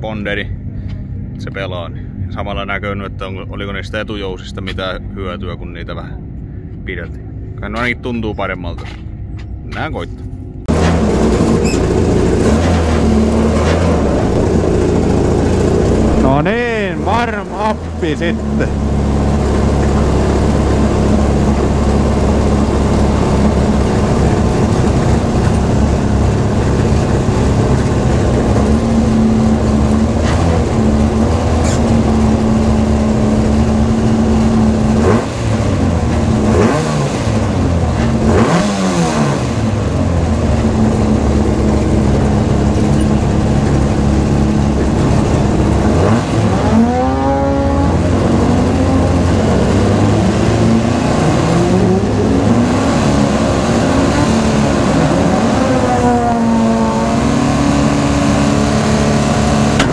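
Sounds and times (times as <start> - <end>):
rally car engine revving: 10.7 - 59.9.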